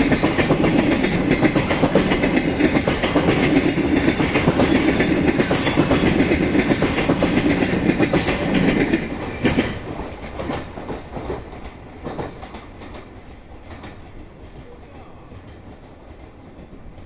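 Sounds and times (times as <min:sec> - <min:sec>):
train wheels clacking over rail joints: 0:00.0 - 0:17.0.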